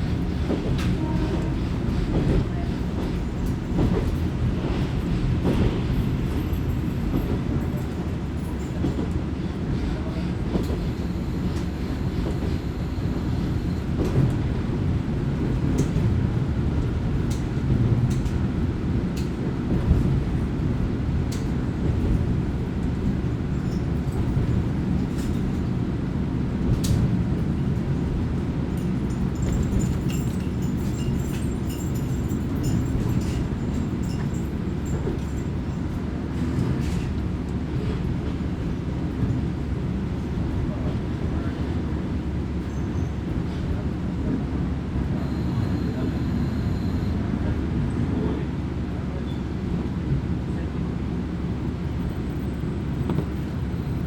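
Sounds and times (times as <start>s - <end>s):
railcar engine rumble: 0.0s - 54.0s.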